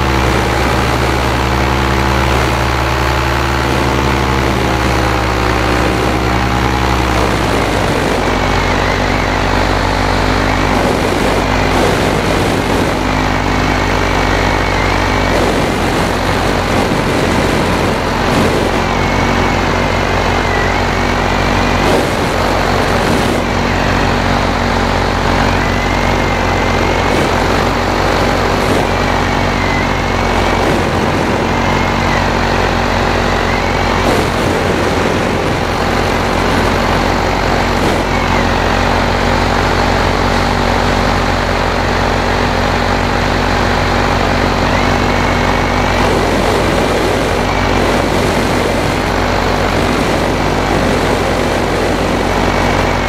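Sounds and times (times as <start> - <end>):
paramotor engine droning: 0.0 - 53.0.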